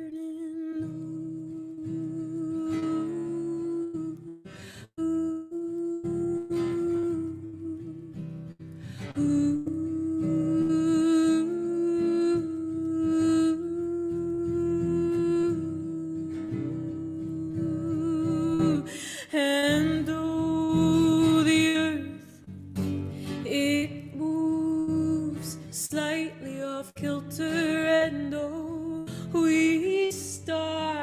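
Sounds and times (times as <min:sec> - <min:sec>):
woman singing wordless melody: 0:00.0 - 0:22.5, 0:23.2 - 0:31.0
acoustic guitar: 0:00.0 - 0:31.0.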